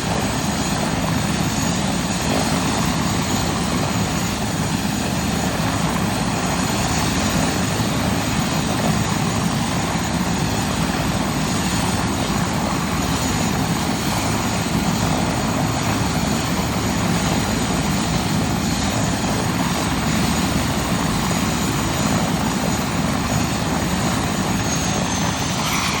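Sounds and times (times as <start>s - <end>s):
helicopter engines and rotor: 0.0s - 26.0s
high turbine whine: 0.0s - 26.0s.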